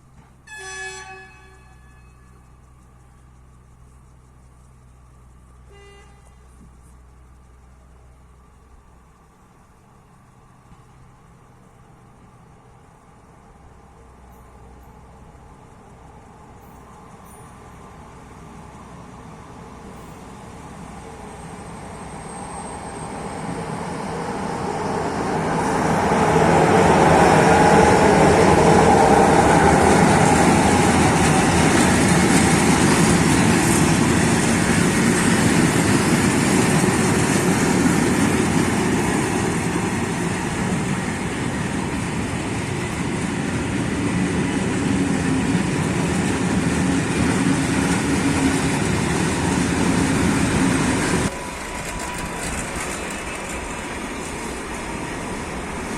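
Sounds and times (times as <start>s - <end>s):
train passing: 0.0s - 55.9s.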